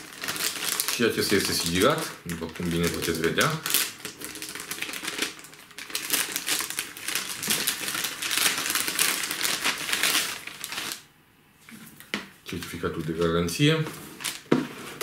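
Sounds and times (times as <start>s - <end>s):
plastic wrapping crinkling and tearing: 0.0s - 11.1s, 12.5s - 15.0s.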